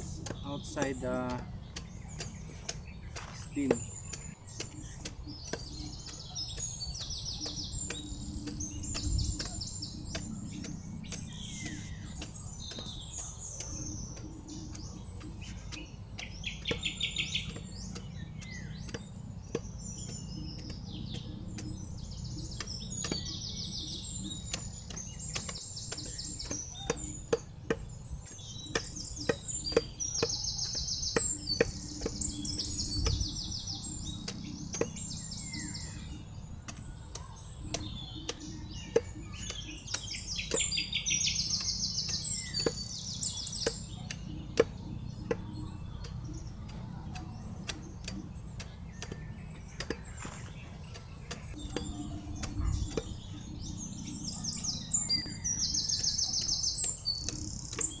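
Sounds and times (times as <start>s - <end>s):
machete chopping on wooden log: 0.0s - 58.0s
small birds chirping: 0.0s - 58.0s
steady low rumble: 0.0s - 58.0s.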